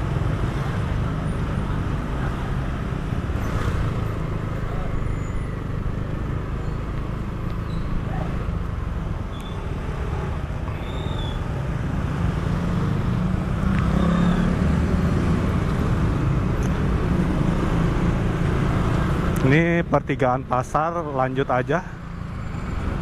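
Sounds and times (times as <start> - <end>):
motorbike road noise: 0.0 - 23.0.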